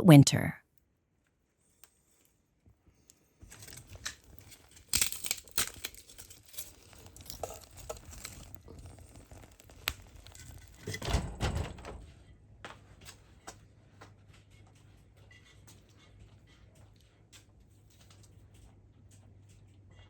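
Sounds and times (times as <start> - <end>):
rustling and crinkling: 1.2 - 20.0.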